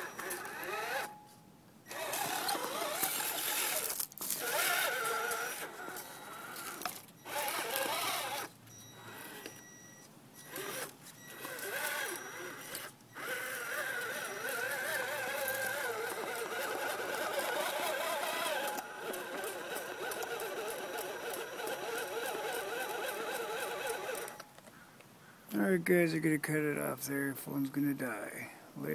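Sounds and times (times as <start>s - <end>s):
electric motor and gears whining: 0.0s - 1.2s, 1.9s - 24.5s.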